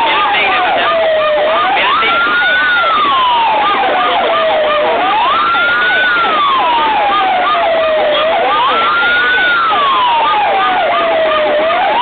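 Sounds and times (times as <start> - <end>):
fire sirens wailing: 0.0 - 12.0.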